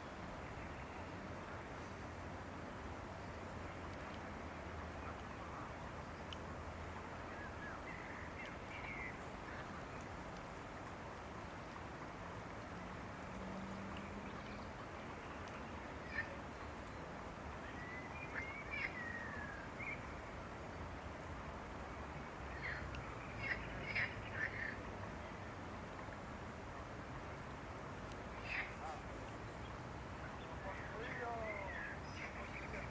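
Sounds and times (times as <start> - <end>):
background hiss: 0.0 - 32.9.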